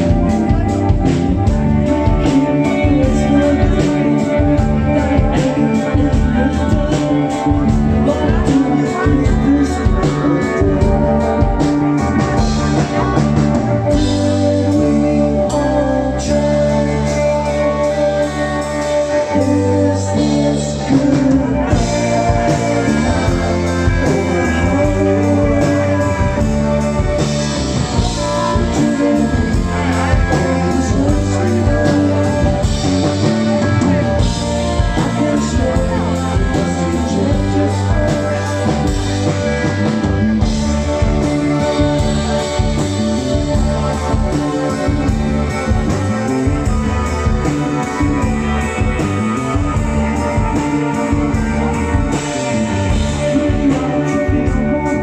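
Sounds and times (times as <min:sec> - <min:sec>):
bass: 0:00.0 - 0:55.0
drums: 0:00.0 - 0:55.0
electric guitar: 0:00.0 - 0:55.0
person singing: 0:00.0 - 0:55.0.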